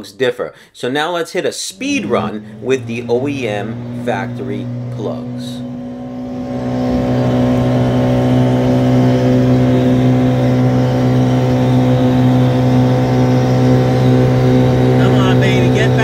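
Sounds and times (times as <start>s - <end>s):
jet boat engine running hard: 1.7s - 16.0s.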